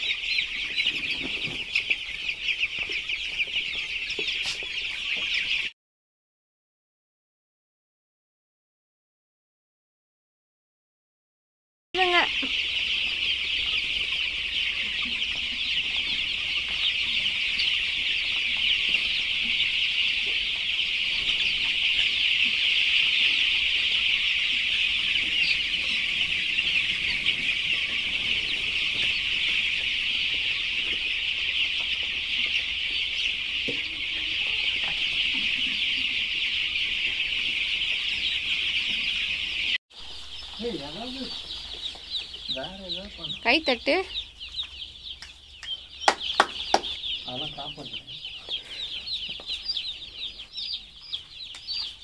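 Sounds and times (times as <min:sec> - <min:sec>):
chicks peeping: 0:00.0 - 0:05.7, 0:12.0 - 0:52.0.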